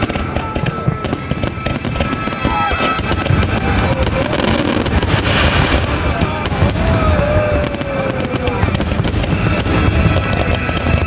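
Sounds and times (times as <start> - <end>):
fireworks booming and cracking: 0.0 - 11.0.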